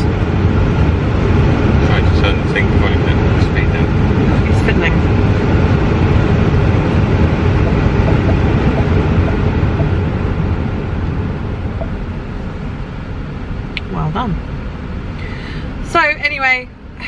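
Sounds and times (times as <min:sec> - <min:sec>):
car air-conditioning fan blowing: 0:00.0 - 0:17.0.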